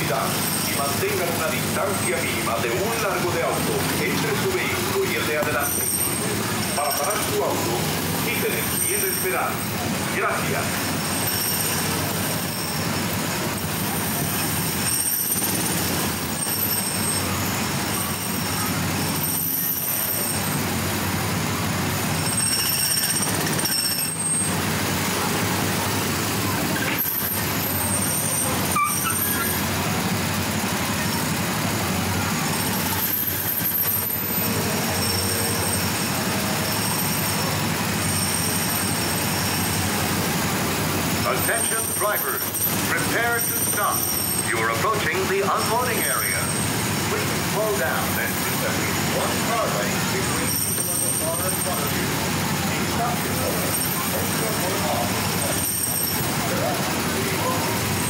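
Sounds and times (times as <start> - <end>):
small gasoline engines idling: 0.0 - 58.0.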